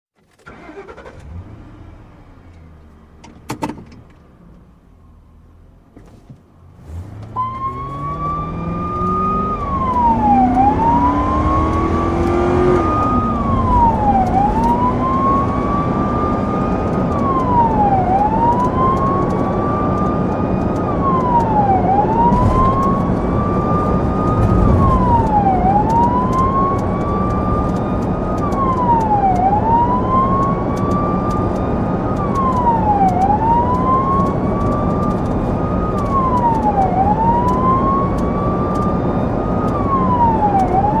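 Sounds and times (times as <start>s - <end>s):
car engine revving: 6.6s - 41.0s
police siren wailing: 7.3s - 41.0s.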